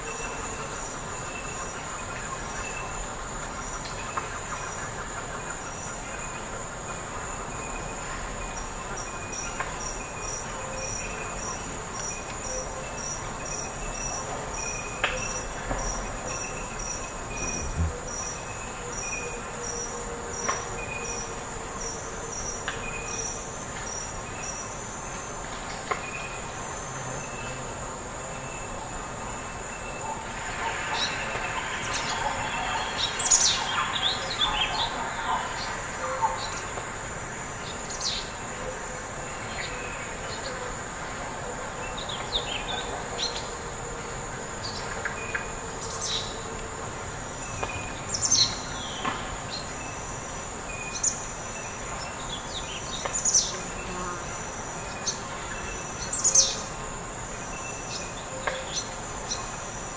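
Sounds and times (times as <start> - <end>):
insect trill: 0.0 - 59.9.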